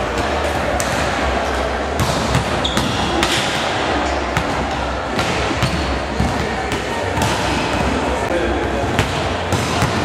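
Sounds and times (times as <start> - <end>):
sports hall background: 0.0 - 10.0
volleyballs being hit and bounced: 0.0 - 10.0.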